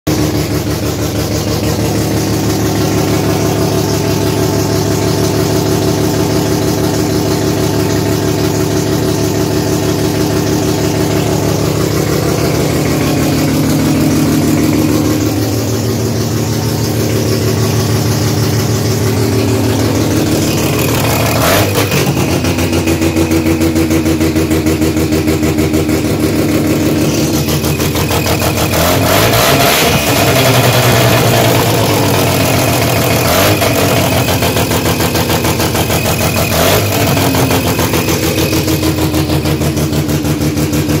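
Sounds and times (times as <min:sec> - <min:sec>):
rotary engine idling: 0:00.1 - 0:41.0.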